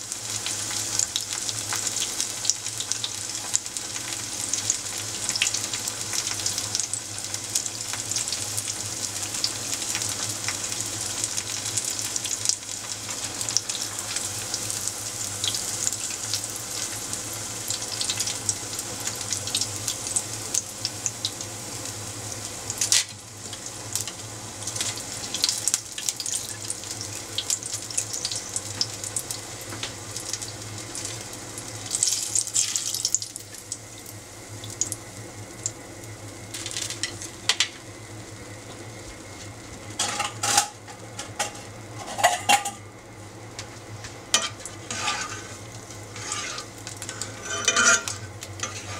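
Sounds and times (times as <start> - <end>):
batter deep-frying in oil: 0.0 - 48.9.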